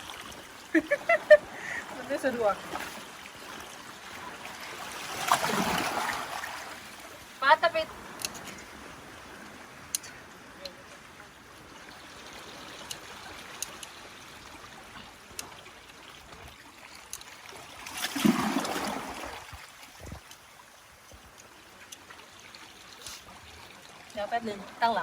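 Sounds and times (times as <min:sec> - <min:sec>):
seawater washing among rocks: 0:00.0 - 0:20.3.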